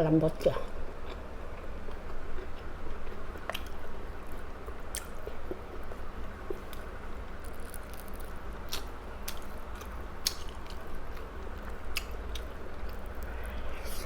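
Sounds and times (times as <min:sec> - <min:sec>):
close chewing: 0:01.0 - 0:14.0.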